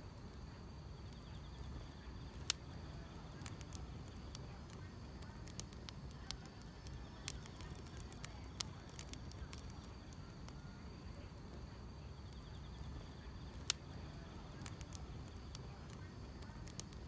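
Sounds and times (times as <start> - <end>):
wood fire crackling: 0.0 - 17.0
insects trilling: 0.1 - 17.0.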